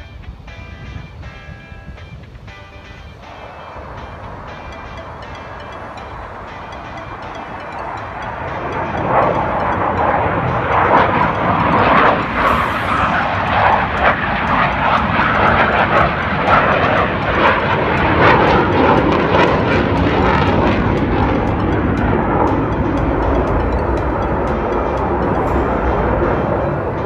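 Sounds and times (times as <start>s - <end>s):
jet aircraft engine: 2.5s - 27.0s.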